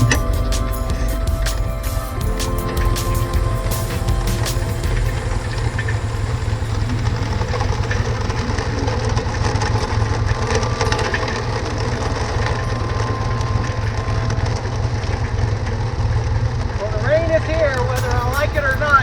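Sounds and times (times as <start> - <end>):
dune buggy engine droning: 0.0 - 19.0.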